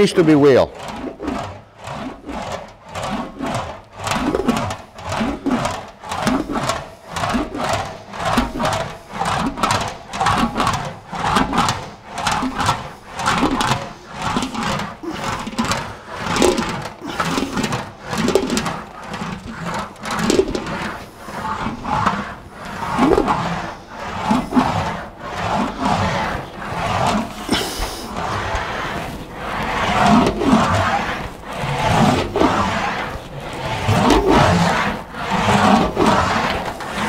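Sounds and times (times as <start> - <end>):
metal sheet rolling through wheel: 0.0 - 37.0.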